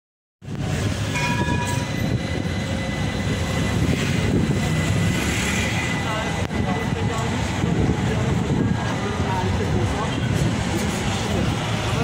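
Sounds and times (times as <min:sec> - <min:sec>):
tram rumble: 0:00.4 - 0:12.0.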